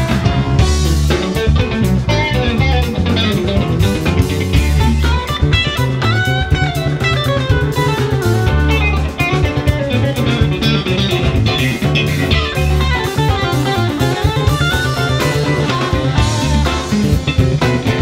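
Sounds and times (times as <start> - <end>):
bass guitar: 0.0 - 18.0
drum kit: 0.0 - 18.0
electric guitar lead lines: 0.0 - 18.0
keyboard: 0.0 - 18.0.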